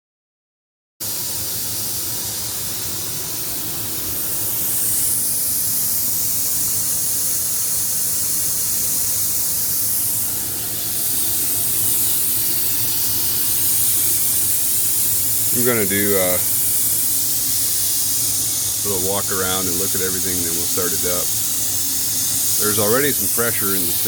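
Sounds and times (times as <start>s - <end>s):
compressed air hissing: 1.0s - 24.0s.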